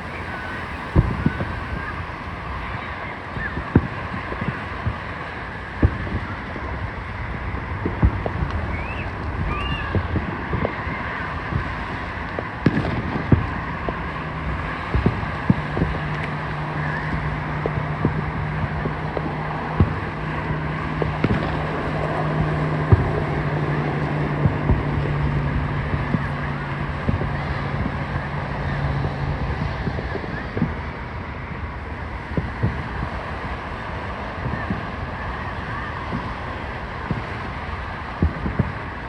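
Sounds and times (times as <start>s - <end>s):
low engine hum: 0.0s - 39.0s
murmur of voices: 0.0s - 39.0s
wind on microphone: 0.0s - 39.0s.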